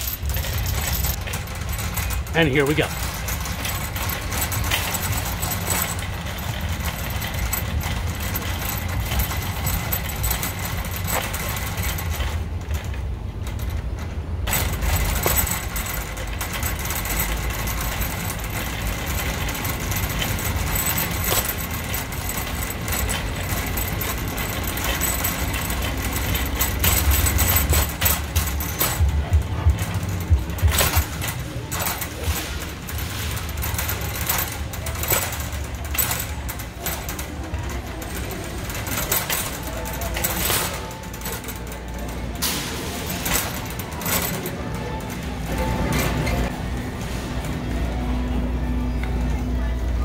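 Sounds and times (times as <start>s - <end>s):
metal basket rattling: 0.0s - 47.8s
shopping cart wheels rumbling: 0.0s - 50.0s.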